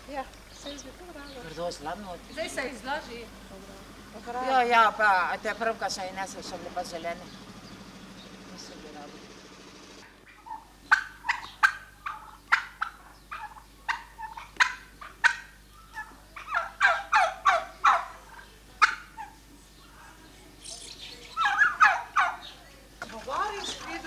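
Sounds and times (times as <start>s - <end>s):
turkeys calling: 0.0s - 24.0s.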